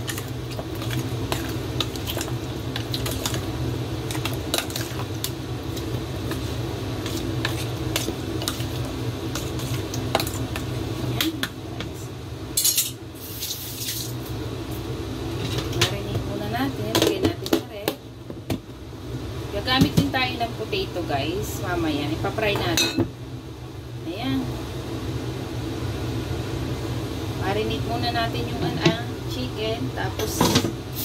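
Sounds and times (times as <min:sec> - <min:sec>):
steady low hum: 0:00.0 - 0:13.3, 0:14.1 - 0:31.0.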